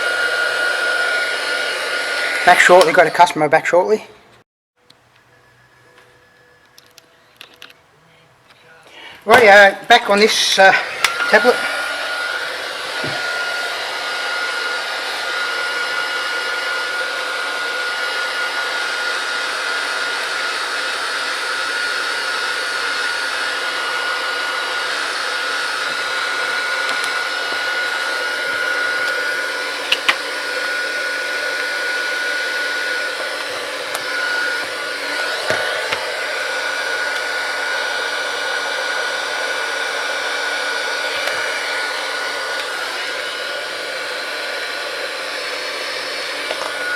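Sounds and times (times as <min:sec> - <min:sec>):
heat gun blowing: 0:00.0 - 0:03.3, 0:08.9 - 0:46.9.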